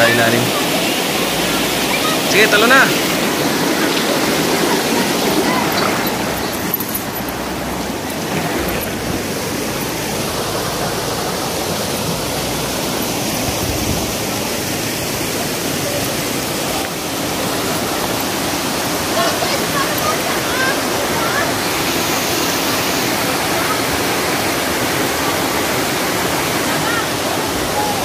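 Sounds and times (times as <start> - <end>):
stream and waterfall rushing: 0.0 - 28.0.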